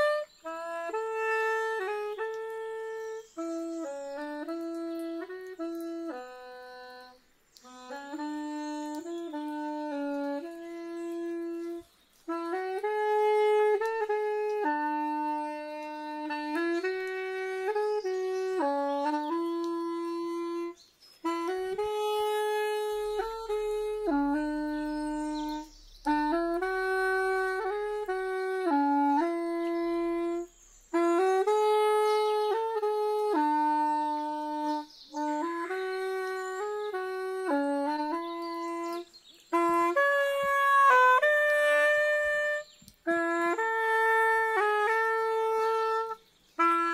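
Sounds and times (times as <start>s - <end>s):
wooden wind pipe melody: 0.0s - 46.9s.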